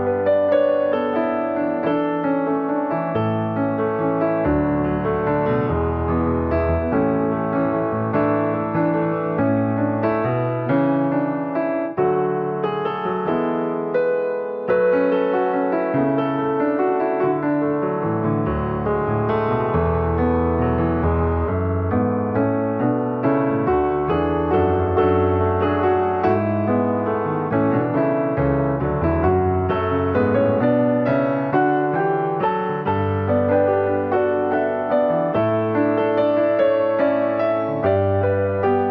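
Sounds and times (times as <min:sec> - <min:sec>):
slow gentle piano music: 0:00.0 - 0:38.9.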